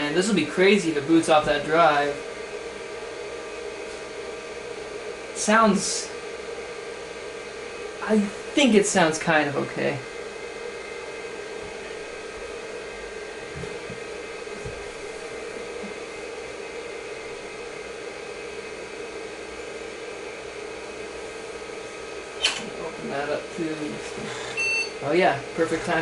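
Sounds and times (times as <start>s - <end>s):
computer fan whirring: 0.0s - 26.0s
hard drive humming and whining: 0.0s - 26.0s.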